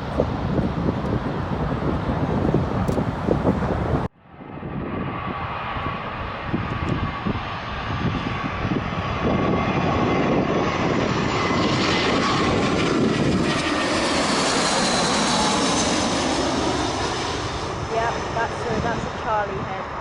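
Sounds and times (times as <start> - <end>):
high jet engine whine: 0.0 - 20.0
jet airliner passing overhead: 0.0 - 20.0.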